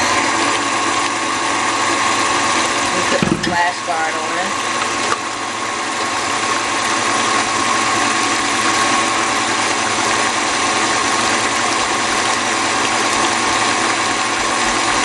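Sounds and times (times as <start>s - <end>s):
stand mixer motor whining: 0.0s - 15.0s
whisk beating syrup: 0.0s - 15.0s.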